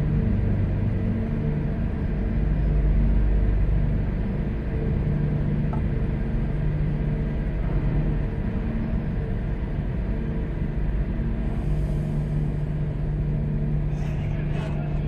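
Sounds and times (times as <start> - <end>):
van engine low rumble: 0.0 - 15.0.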